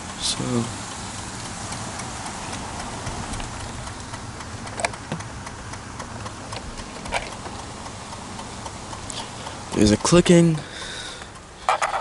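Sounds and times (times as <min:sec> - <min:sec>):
light clicking in car: 0:00.0 - 0:12.0
steady hiss: 0:00.0 - 0:12.0.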